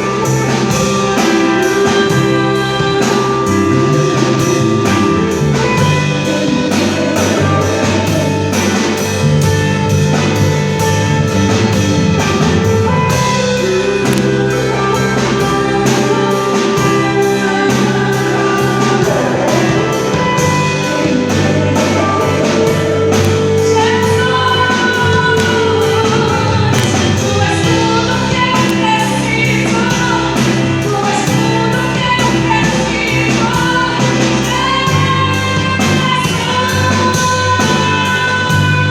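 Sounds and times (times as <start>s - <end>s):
band playing gospel song: 0.0s - 38.9s
person singing: 0.0s - 38.9s.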